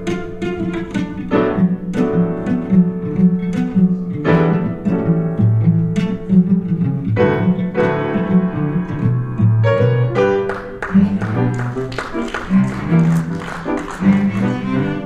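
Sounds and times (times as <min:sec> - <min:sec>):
low string instruments playing: 0:00.0 - 0:15.0.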